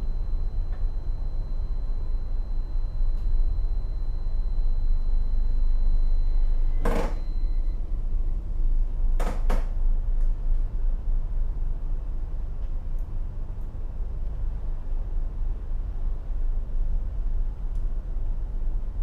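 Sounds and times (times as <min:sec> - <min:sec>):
diesel engine low rumble: 0:00.0 - 0:19.0.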